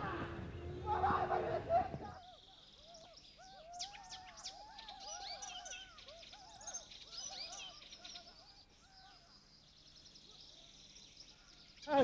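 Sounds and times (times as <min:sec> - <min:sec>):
birds chirping chorus: 0:00.0 - 0:12.0.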